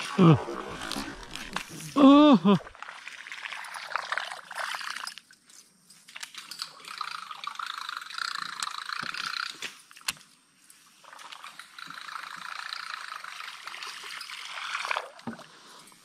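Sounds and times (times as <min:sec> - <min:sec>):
water sloshing and trickling: 0:00.0 - 0:08.2, 0:10.9 - 0:16.0.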